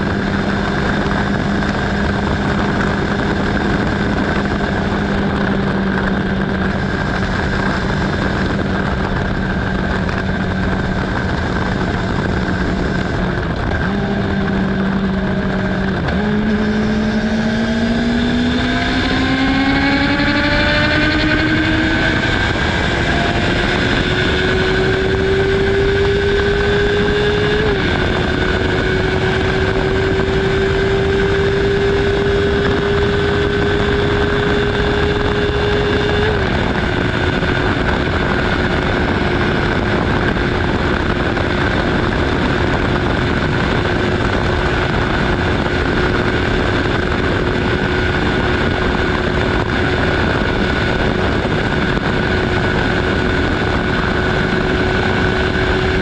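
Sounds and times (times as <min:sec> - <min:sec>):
motorcycle engine at high revs: 0:00.0 - 0:56.0
wind noise: 0:00.0 - 0:56.0.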